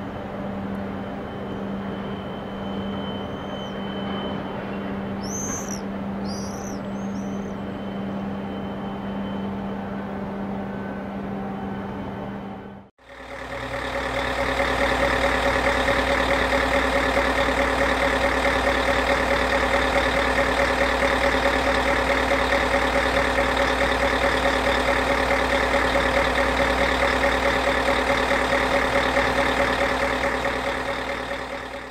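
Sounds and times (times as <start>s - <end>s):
large engine running: 0.0s - 31.9s.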